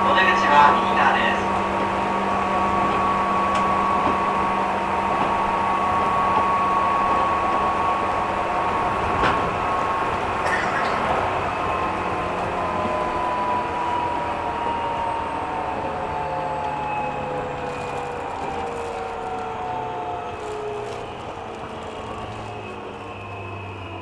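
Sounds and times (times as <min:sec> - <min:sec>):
train wheel and track rumble: 0:00.0 - 0:24.0.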